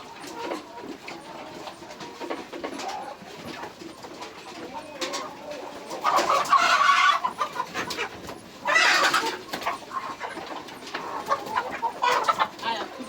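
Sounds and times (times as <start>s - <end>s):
chickens clucking and squawking: 0.0s - 13.0s.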